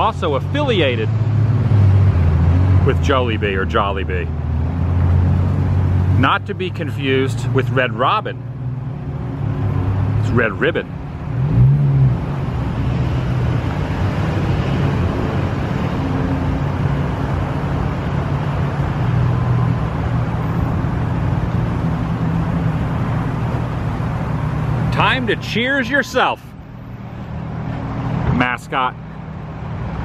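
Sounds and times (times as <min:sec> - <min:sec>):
road traffic engine hum: 0:00.0 - 0:30.0.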